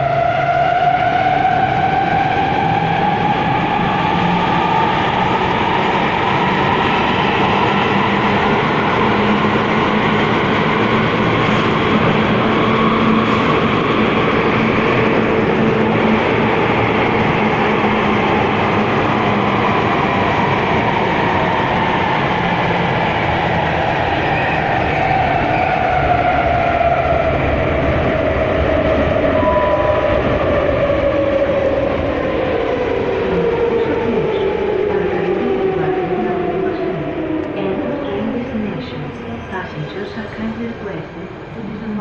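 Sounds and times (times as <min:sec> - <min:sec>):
train rumble and rail noise: 0:00.0 - 0:42.0
train whine: 0:00.0 - 0:42.0.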